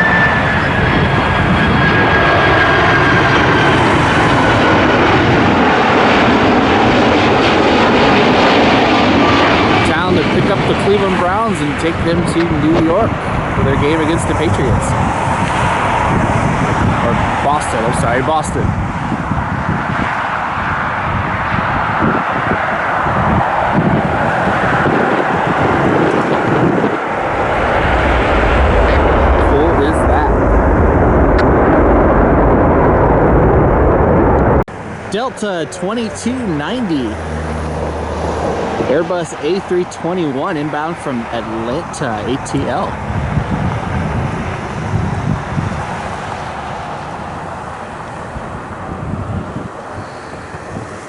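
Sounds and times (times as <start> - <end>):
gusty wind on microphone: 0.0 - 51.0
jet engines rumbling: 0.0 - 51.0.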